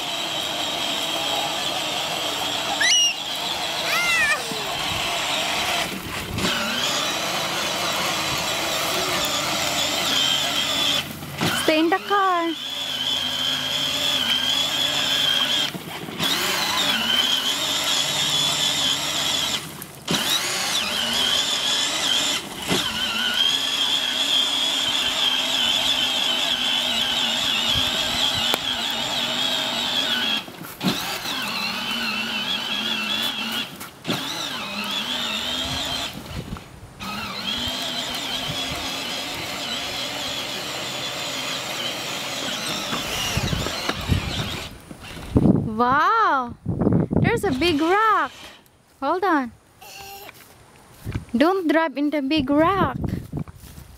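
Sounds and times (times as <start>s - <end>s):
toy car electric motor whining: 0.0s - 46.0s, 47.3s - 50.5s.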